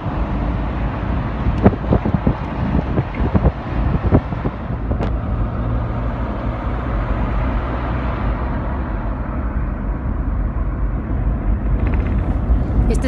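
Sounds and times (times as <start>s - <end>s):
car driving road noise: 0.0s - 13.0s.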